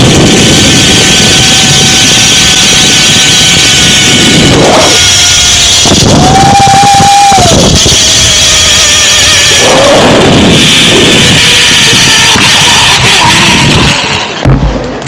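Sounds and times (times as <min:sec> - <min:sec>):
wind rush on microphone: 0:00.0 - 0:15.0
zip line trolley whining: 0:00.0 - 0:15.0.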